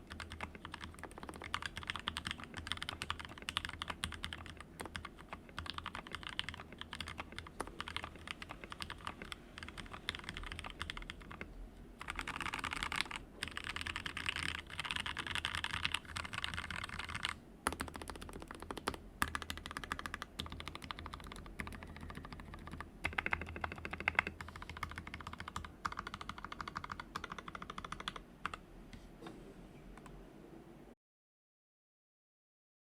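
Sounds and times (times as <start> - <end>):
fast typing on mechanical keyboard: 0.0 - 28.6.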